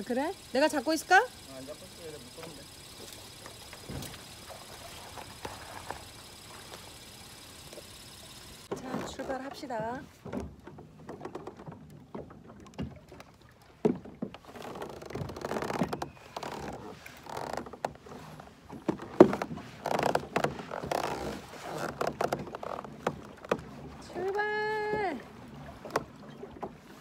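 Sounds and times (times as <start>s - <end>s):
gear knocking against hull: 0.0s - 13.2s, 13.8s - 26.9s
water splashing around kayak: 0.0s - 27.0s.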